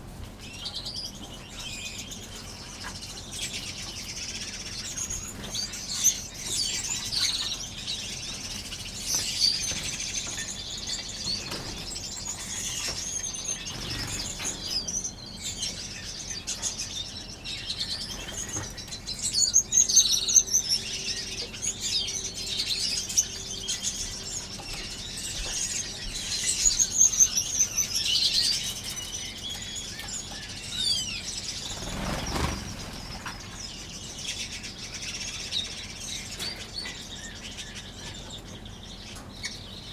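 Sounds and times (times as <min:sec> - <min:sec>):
finches chirping: 0:00.4 - 0:39.9.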